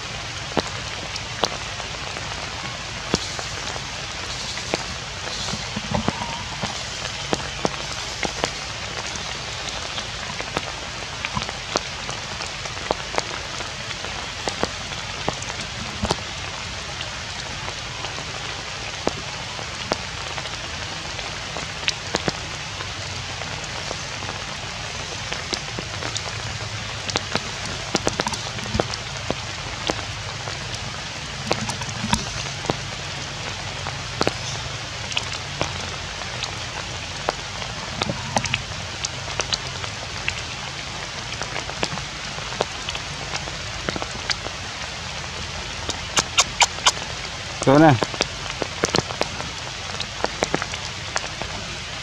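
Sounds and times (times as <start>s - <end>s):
raindrops clicking close by: 0.0s - 52.0s
steady rain on stones: 0.0s - 52.0s.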